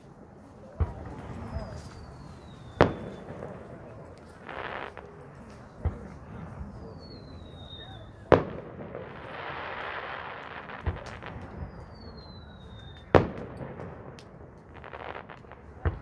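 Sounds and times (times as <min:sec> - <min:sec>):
firework hissing and crackling: 0:00.7 - 0:16.0.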